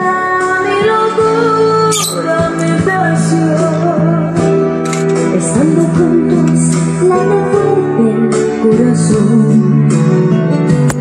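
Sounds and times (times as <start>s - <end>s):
person singing: 0.0s - 10.0s
guitar: 0.0s - 11.0s.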